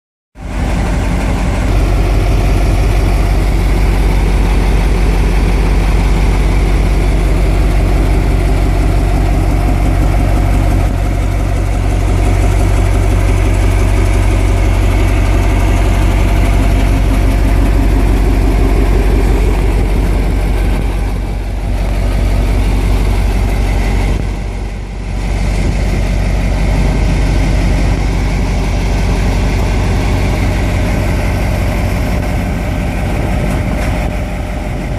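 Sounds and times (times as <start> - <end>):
diesel truck engine idling: 0.4 - 34.9.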